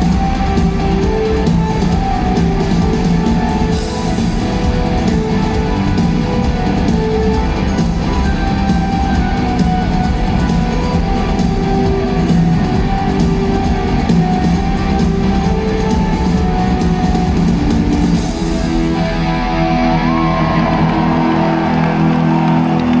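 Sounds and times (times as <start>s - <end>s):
bass guitar: 0.0s - 23.0s
drums: 0.0s - 23.0s
electric guitars: 0.0s - 23.0s.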